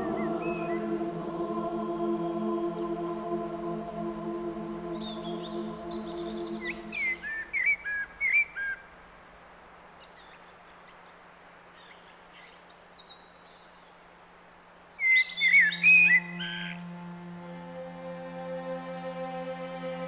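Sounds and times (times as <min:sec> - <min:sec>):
faint low hum: 0:00.0 - 0:20.0
songbird chirping: 0:00.0 - 0:20.0.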